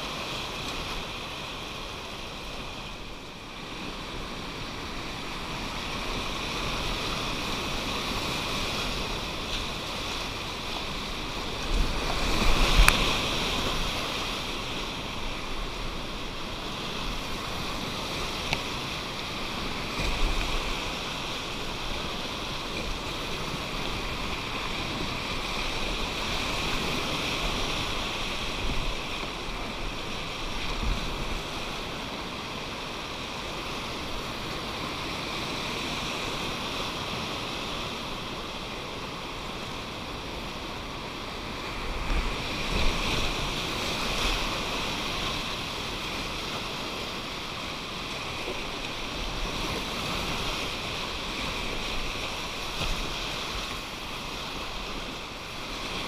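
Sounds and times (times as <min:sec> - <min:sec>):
whitewater rushing through rapids: 0:00.0 - 0:56.0.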